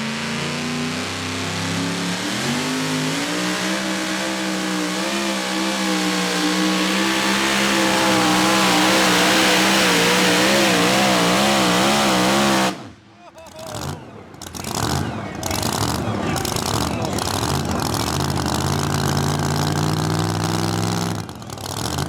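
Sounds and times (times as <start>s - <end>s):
tractor engine at full throttle: 0.0s - 22.0s.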